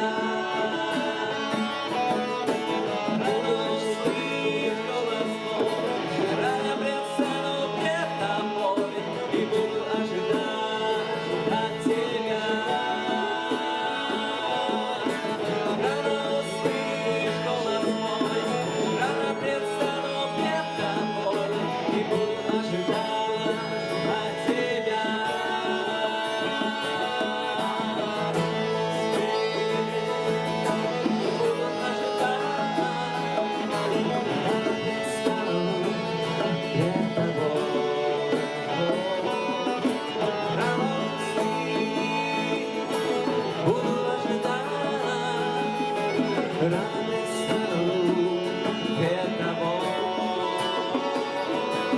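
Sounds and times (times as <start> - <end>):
instrumental worship music: 0.0 - 51.9.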